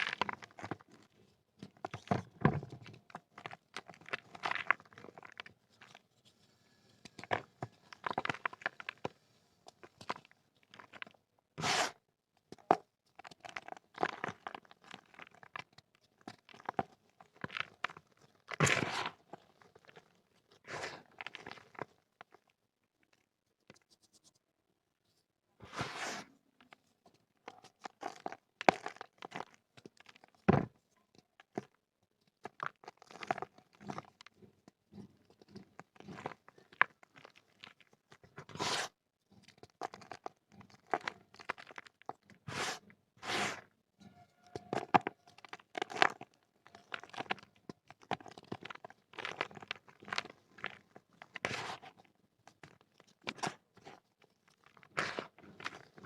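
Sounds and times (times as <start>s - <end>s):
dry clay crumbling: 0.0s - 24.3s, 25.8s - 56.0s.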